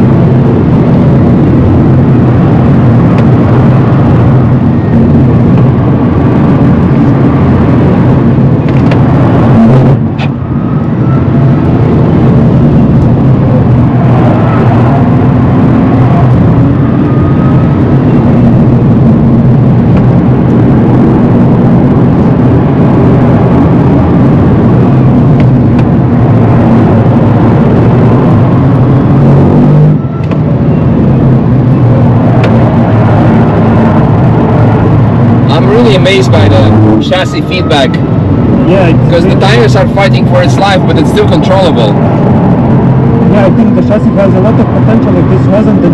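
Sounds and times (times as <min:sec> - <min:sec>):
tyre and road noise: 0:00.0 - 0:45.9.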